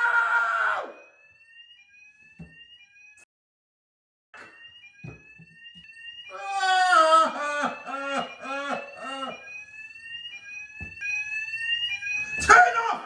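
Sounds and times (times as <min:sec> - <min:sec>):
fire alarm: 0:00.0 - 0:03.3, 0:04.4 - 0:13.0.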